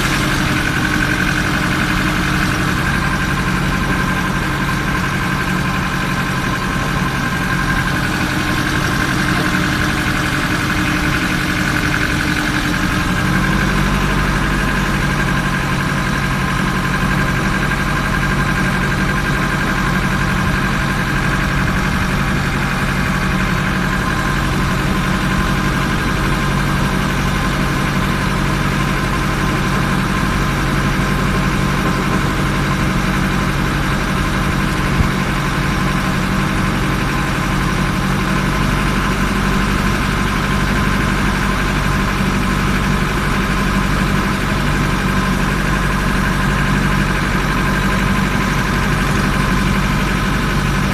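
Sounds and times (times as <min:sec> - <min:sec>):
ferry engine running: 0:00.0 - 0:50.9.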